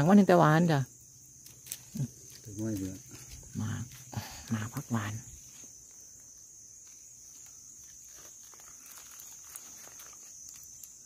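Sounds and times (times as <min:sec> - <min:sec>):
leaves rustling: 0:01.3 - 0:11.0
twigs ticking: 0:01.3 - 0:11.0.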